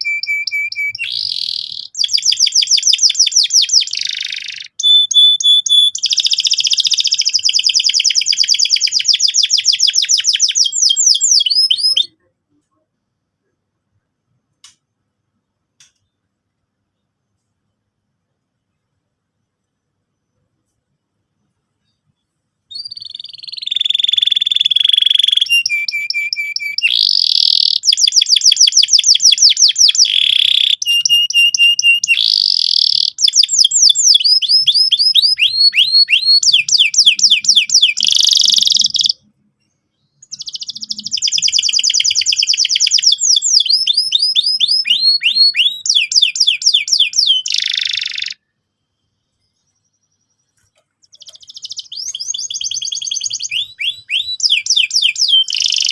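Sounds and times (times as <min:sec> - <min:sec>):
canary singing trills: 0:00.0 - 0:12.7, 0:22.7 - 0:55.9.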